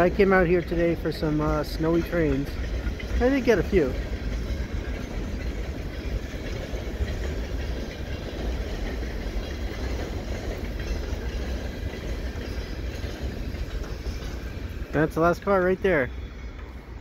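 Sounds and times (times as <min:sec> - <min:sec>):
steel wheels on rails: 0:00.0 - 0:17.0.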